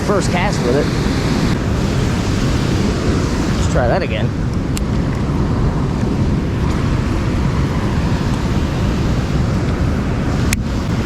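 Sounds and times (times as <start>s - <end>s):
water rushing through dam spillway: 0.0s - 11.0s.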